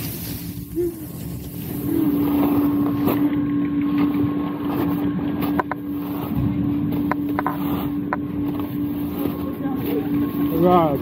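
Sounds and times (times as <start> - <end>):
skis sliding over snow: 0.0 - 3.4, 4.0 - 11.0
steady low hum: 0.0 - 11.0.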